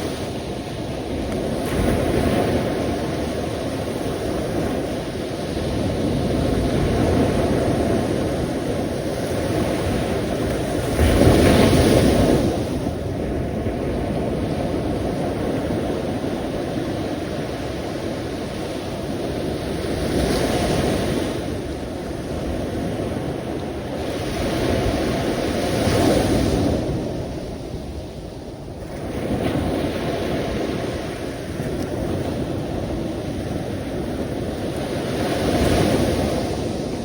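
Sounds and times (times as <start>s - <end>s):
sea waves washing onto shore: 0.0s - 37.0s.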